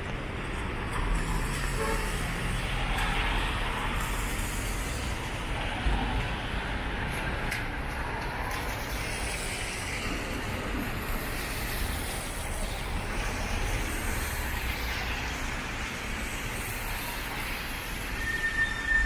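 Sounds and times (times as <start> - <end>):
tyres hissing on wet road: 0.1 - 19.0.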